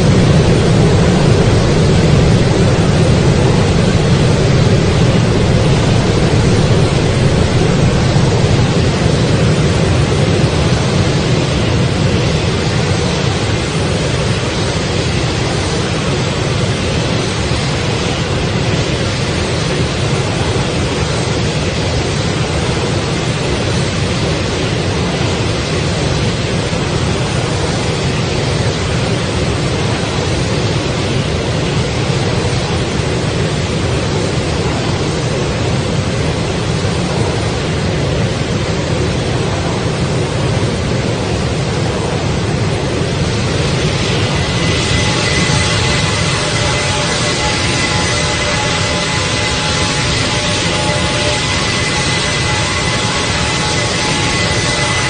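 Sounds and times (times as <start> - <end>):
loud steady rushing noise: 0.0 - 55.0.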